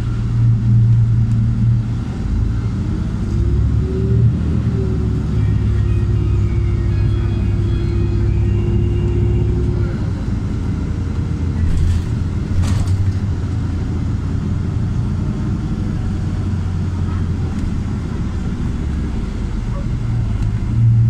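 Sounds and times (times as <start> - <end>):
bus engine low rumble: 0.0 - 21.0.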